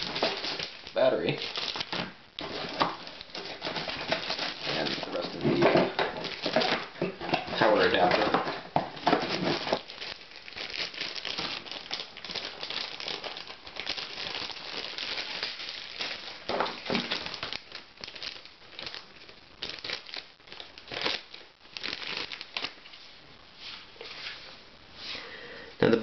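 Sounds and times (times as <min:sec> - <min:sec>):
plastic bags crinkling: 0:00.0 - 0:23.2.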